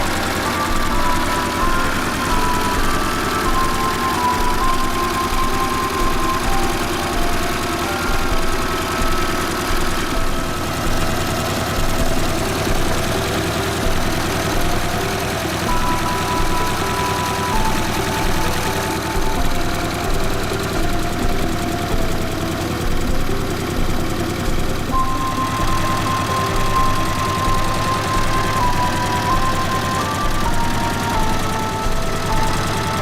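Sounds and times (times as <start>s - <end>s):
tractor engine knocking: 0.0s - 33.0s.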